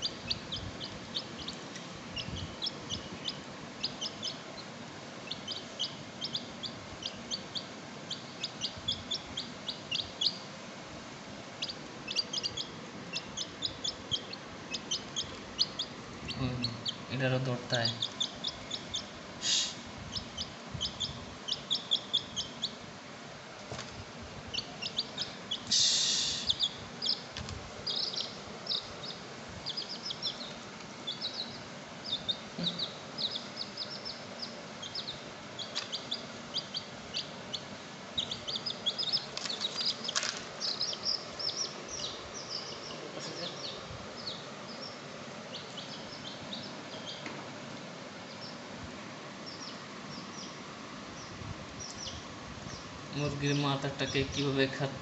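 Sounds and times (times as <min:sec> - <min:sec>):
baby chick peeping: 0:00.0 - 0:55.0.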